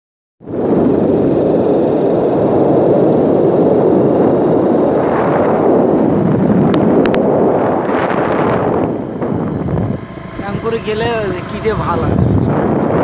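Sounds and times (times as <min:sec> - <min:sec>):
moving vehicle running noise: 0:00.4 - 0:13.0
wind buffeting the microphone: 0:00.4 - 0:13.0.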